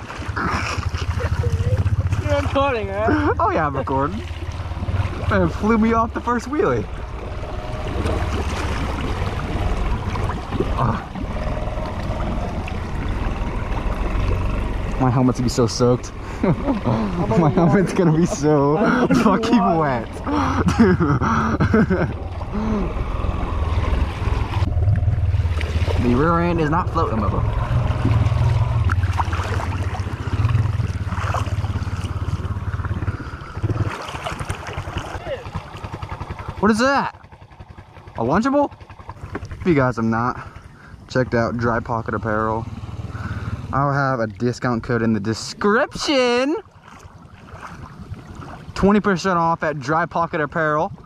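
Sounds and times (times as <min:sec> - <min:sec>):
atv engine running: 0:00.0 - 0:50.7
wheels splashing water: 0:00.0 - 0:51.0.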